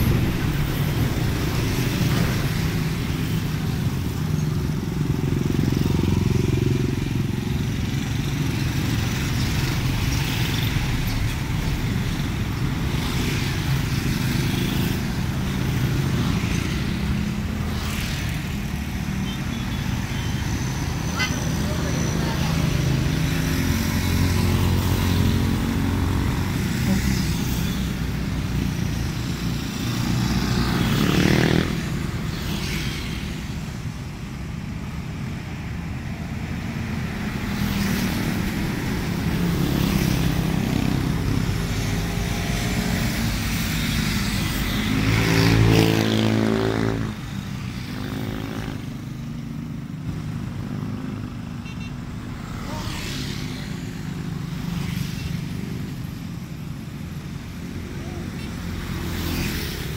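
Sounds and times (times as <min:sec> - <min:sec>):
low traffic rumble: 0:00.0 - 0:59.9
vehicles passing: 0:00.0 - 0:59.9.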